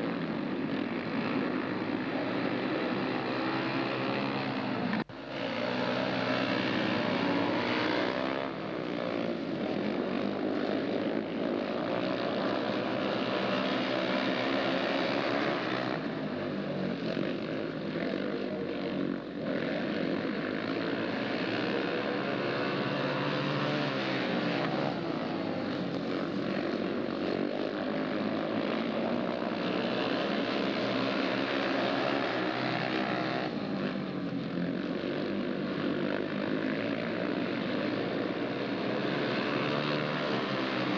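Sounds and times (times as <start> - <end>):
motorcycle engines racing: 0.0 - 40.9.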